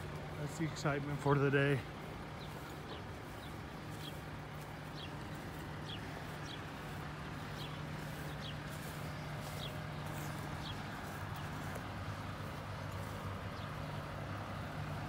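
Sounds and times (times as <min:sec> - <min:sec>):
bird chirping: 0:00.0 - 0:14.1.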